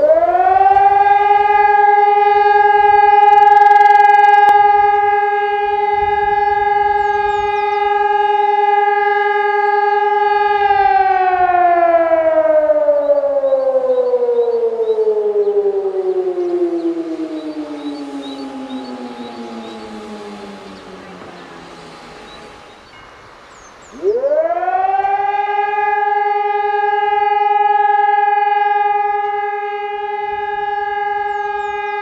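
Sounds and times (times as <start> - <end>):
siren steady tone: 0.0 - 32.0.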